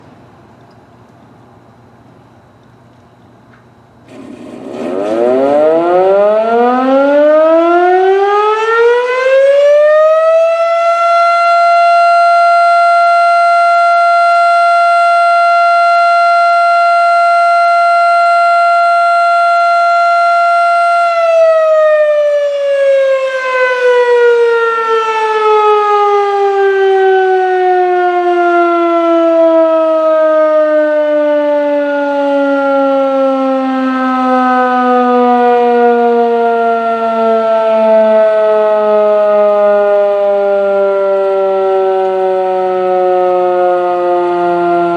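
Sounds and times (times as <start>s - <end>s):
warning siren wailing: 4.1s - 44.9s.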